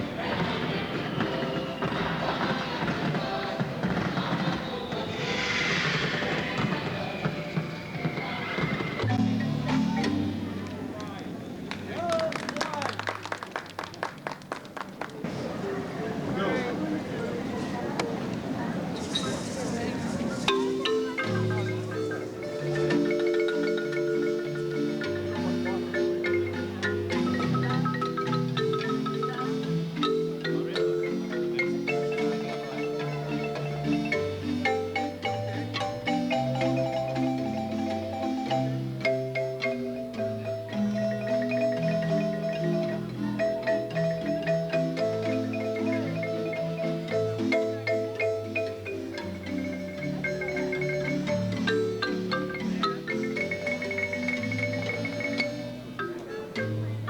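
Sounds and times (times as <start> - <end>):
marimba music: 0.0 - 12.1, 20.4 - 57.0.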